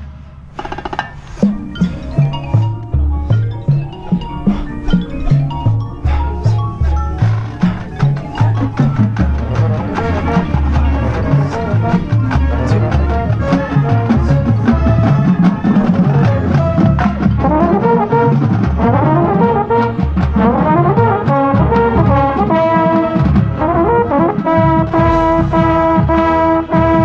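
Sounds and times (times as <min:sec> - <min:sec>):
low drums: 0:00.0 - 0:27.0
marching band brass: 0:04.5 - 0:27.0.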